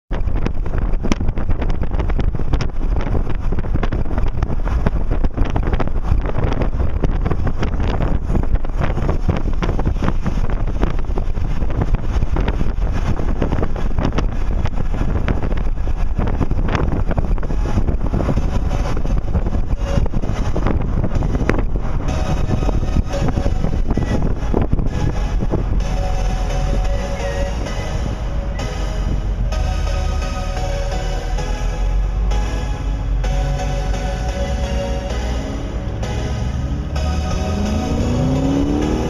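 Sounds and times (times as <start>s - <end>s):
car engine and tyre noise: 0.1s - 39.0s
wind buffeting microphone: 0.1s - 39.0s.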